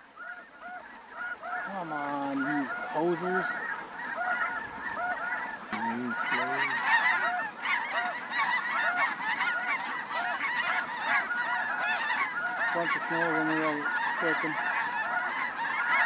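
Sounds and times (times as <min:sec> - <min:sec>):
geese honking: 0:00.0 - 0:16.0
deeper goose calls: 0:00.2 - 0:16.0.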